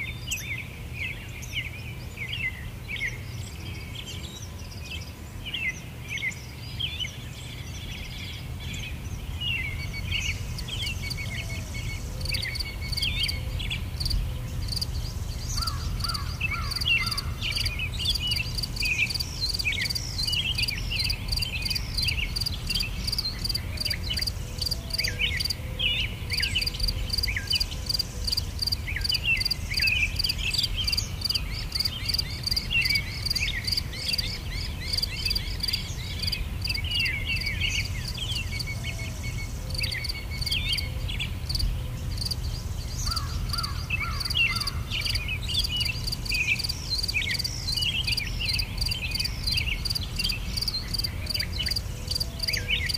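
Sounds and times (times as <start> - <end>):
birds chirping: 0.0 - 52.9
insects chirping: 9.5 - 25.6, 26.3 - 52.9.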